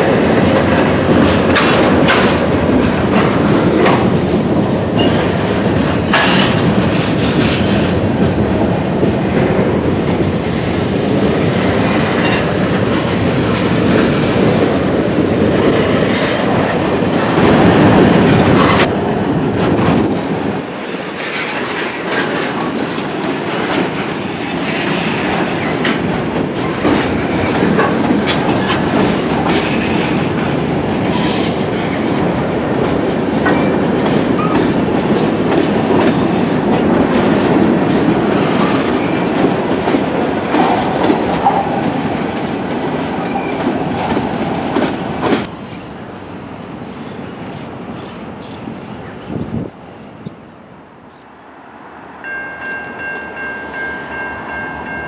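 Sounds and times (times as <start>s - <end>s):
train wheels clacking over rail joints: 0.0s - 45.5s
train rumble: 0.0s - 55.0s.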